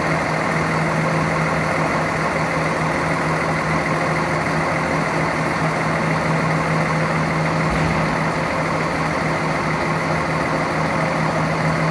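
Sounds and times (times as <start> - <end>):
diesel train engine idling: 0.0 - 11.9.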